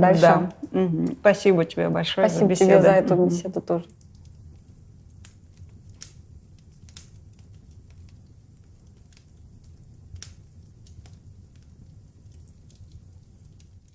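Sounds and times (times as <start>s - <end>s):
wood fire crackling: 0.0s - 13.9s.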